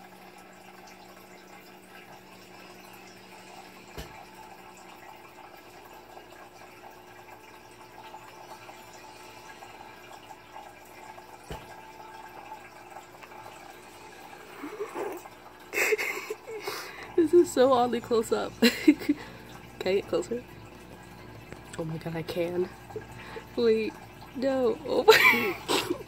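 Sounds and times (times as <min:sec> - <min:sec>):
water trickling and bubbling: 0:00.0 - 0:26.0.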